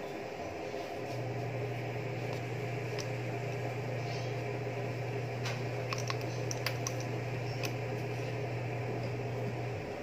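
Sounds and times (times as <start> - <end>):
gas burner hissing: 0.0 - 10.0
steady low hum: 0.0 - 10.0.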